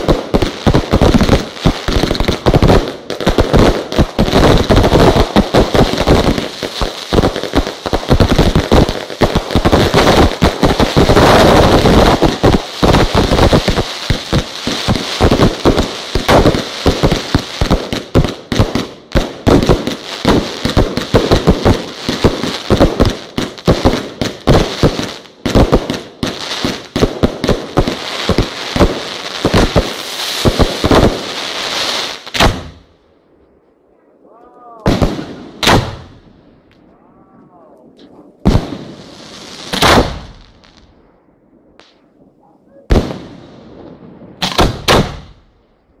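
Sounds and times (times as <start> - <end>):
fireworks bangs and crackle: 0.0 - 32.9, 34.8 - 36.9, 38.0 - 46.0.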